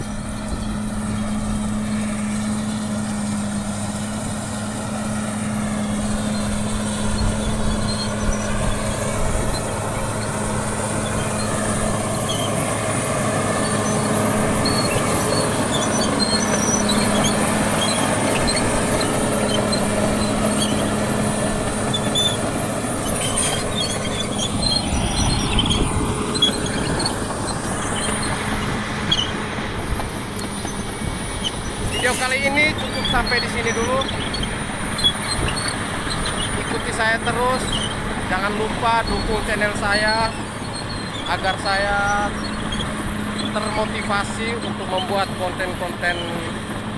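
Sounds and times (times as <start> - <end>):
faint high squeaks: 0.0 - 29.4, 30.4 - 46.5
bulldozer diesel engine humming: 0.0 - 46.9.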